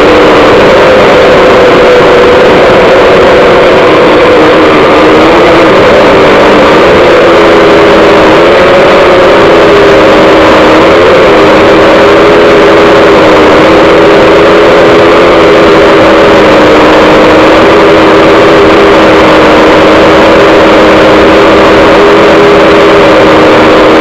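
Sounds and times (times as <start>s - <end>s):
drone motors and propellers droning: 0.0s - 24.0s.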